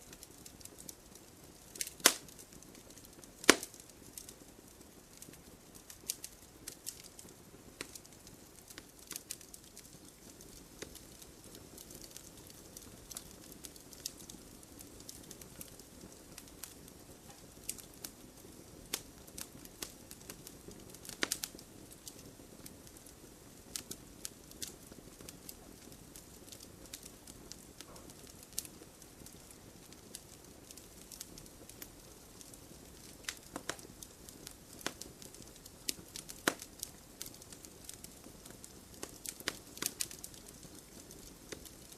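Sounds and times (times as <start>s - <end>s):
crackles and pops of burning wood: 0.0s - 41.9s
faint low hiss: 0.0s - 41.9s.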